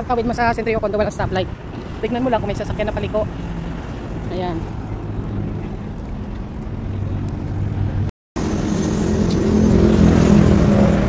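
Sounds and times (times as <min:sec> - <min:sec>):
traffic engines humming: 0:00.0 - 0:11.0.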